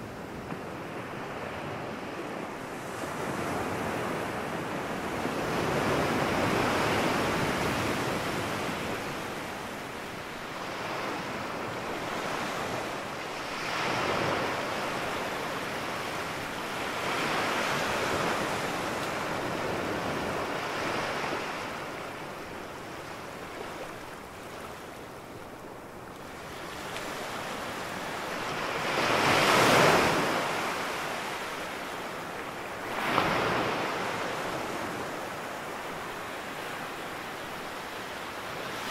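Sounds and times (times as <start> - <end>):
waves breaking on a sandy beach: 0.0 - 38.9.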